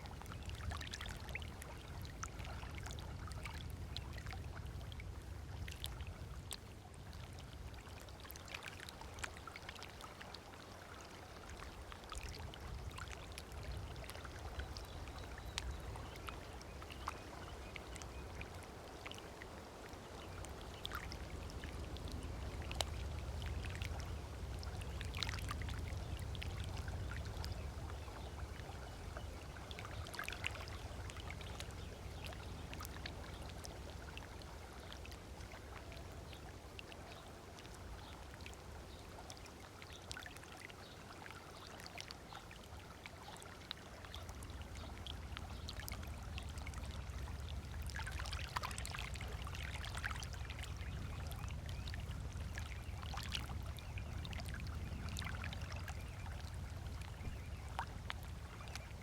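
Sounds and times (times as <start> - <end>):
small waves lapping on sand: 0.0 - 59.0.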